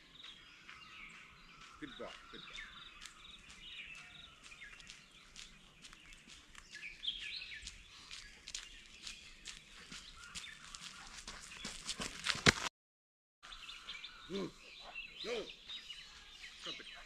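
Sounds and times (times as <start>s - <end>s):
small birds chirping: 0.0s - 12.5s, 13.4s - 17.0s.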